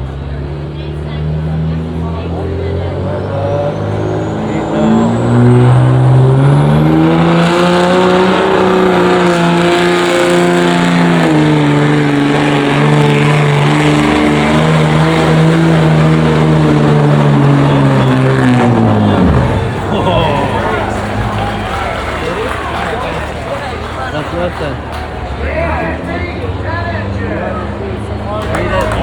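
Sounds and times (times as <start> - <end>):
truck engine at full throttle: 0.0 - 29.0.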